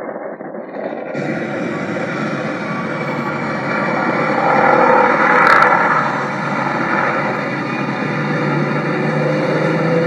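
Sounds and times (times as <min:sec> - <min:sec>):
airplane engine drone: 0:00.0 - 0:10.0.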